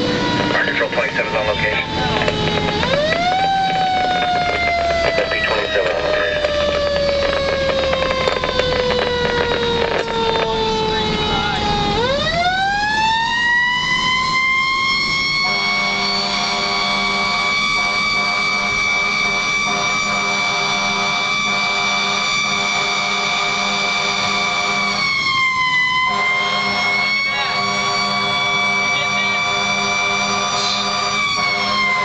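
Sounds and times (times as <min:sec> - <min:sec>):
fire engine siren wailing: 0:00.0 - 0:32.0.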